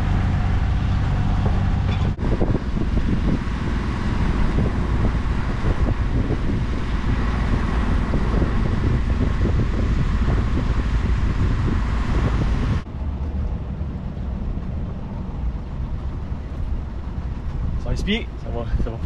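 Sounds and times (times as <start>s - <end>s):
boat engine rumble: 0.0s - 19.0s
wind buffeting microphone: 0.0s - 19.0s.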